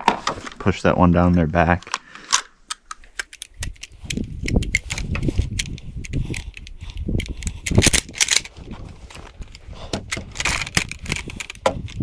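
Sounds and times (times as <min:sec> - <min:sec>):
metallic clicks of rifle action: 0:01.8 - 0:12.0.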